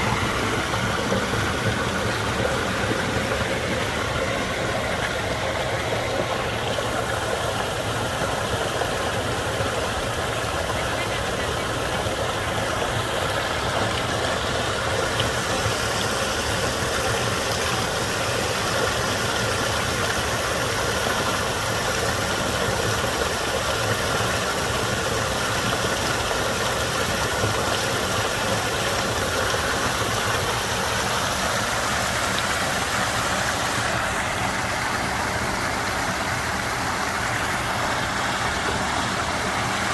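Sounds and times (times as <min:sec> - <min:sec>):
waterfall falling into pond: 0:00.0 - 0:39.9.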